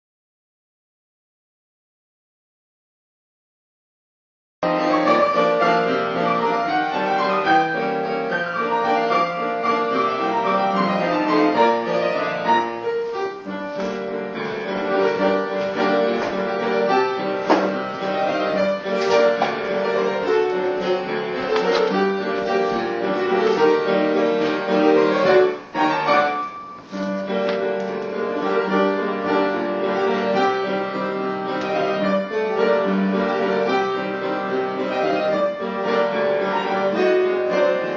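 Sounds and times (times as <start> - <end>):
classical piano music: 4.6 - 37.9.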